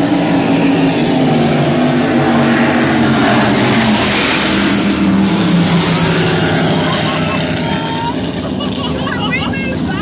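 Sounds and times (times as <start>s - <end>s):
hull and spray rushing: 0.0s - 9.6s
powerboat engine drone: 0.0s - 10.0s.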